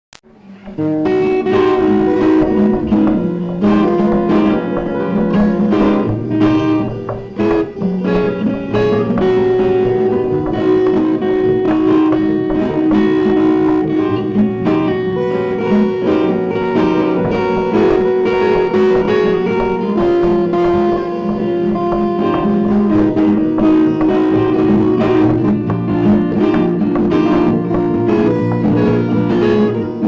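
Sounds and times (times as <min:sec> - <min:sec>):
plucked guitar melody: 0:00.2 - 0:30.0.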